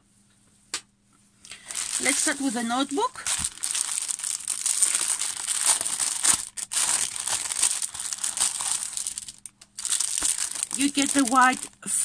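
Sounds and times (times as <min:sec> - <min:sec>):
plastic packaging crinkling: 0:01.5 - 0:12.0.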